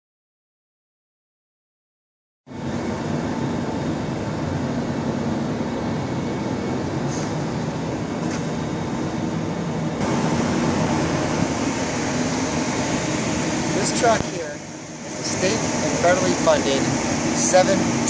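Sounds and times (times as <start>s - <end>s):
electric machinery hum: 2.5s - 18.0s.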